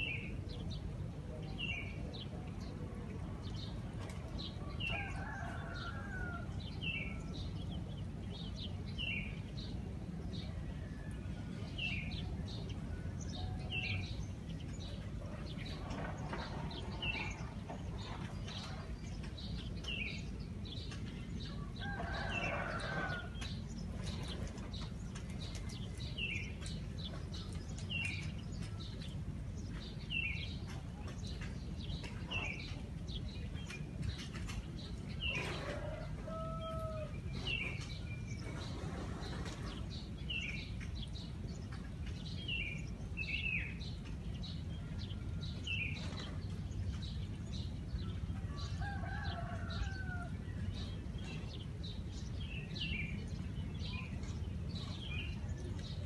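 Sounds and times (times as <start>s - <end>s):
low background rumble: 0.0s - 56.0s
small birds chirping: 0.0s - 56.0s.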